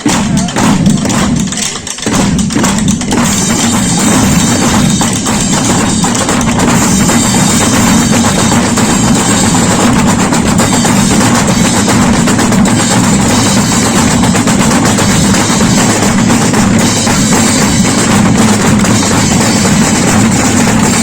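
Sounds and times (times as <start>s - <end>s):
street band drums and percussion: 0.0s - 21.0s.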